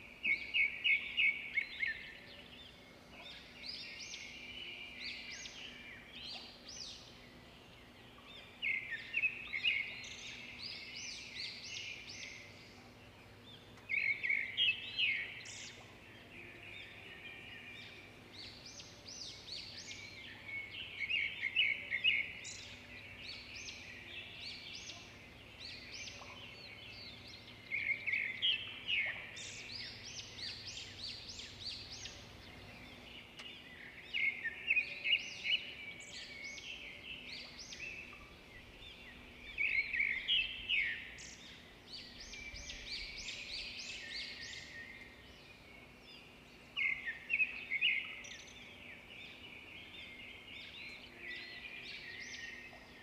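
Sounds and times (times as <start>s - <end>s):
faint background hiss: 0.0s - 53.0s
bird chirping: 0.2s - 53.0s.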